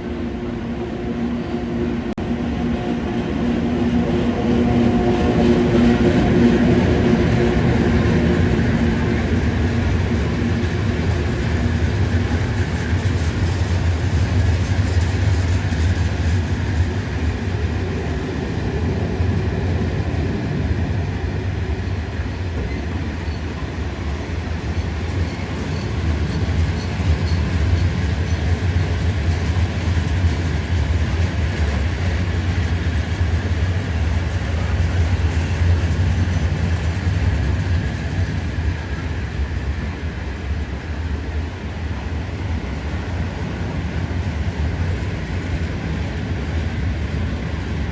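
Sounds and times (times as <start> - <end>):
freight train wheels rumbling on rails: 0.0 - 47.9.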